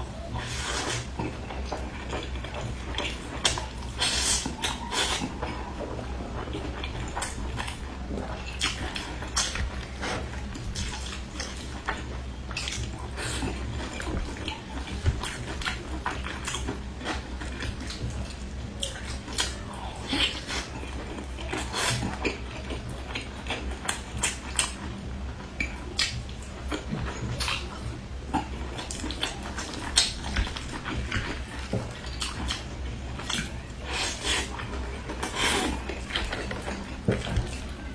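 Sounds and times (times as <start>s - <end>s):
steady low hum: 0.0s - 37.9s
biting and chewing: 0.2s - 37.9s.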